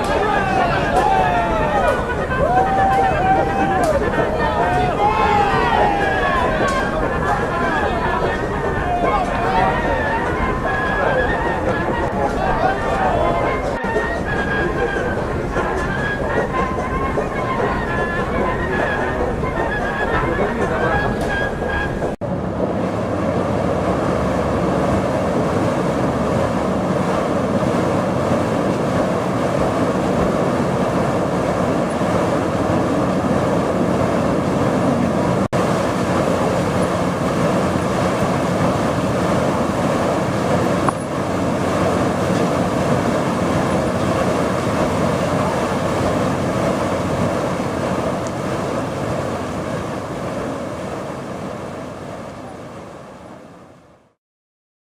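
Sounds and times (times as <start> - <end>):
dense rumbling vehicle noise: 0.0 - 53.2.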